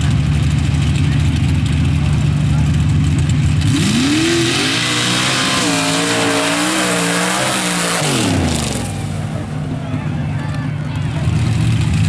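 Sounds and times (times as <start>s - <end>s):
spinning tires flinging mud: 0.0s - 12.0s
truck engine revving: 0.0s - 12.0s.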